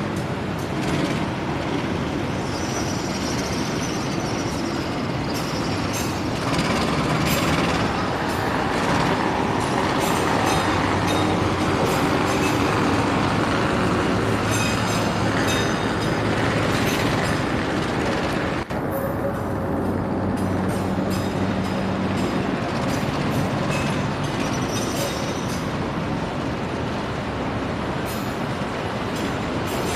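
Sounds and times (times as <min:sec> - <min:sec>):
train wheels clacking on rails: 0:00.0 - 0:26.0, 0:28.0 - 0:29.9.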